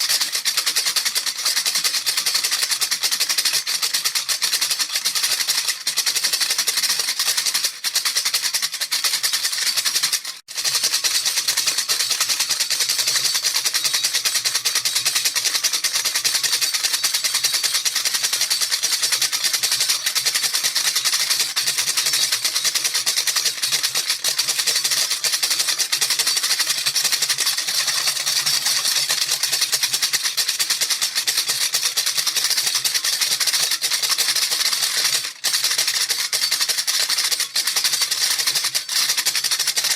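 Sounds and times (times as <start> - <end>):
baby rattle shaken fast: 0.0 - 39.9.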